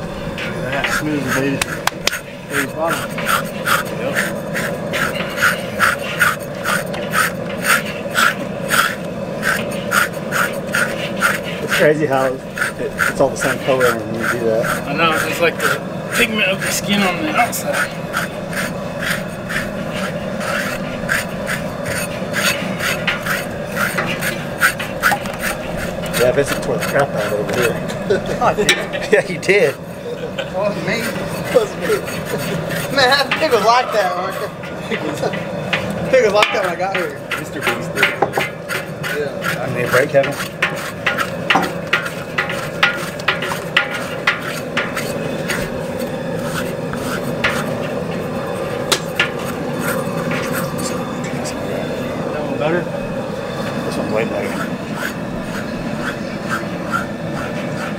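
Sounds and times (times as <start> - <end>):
metal blades scraping hide: 0.0 - 51.7.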